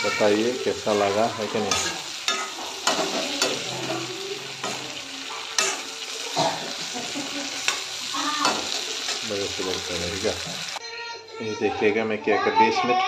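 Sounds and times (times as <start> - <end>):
oil sizzling: 0.0 - 10.8.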